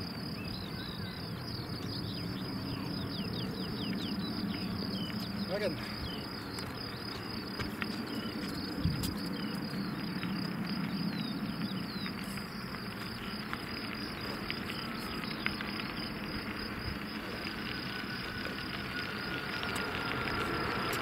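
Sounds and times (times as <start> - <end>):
distant jet engine rumble: 0.0 - 21.0
insects chirring: 0.0 - 21.0.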